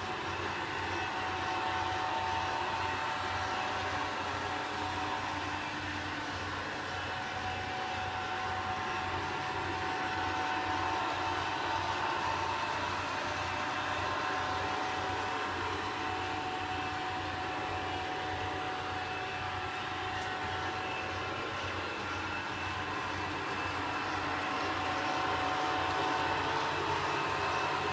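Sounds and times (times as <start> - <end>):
faint constant whine: 0.0 - 27.9.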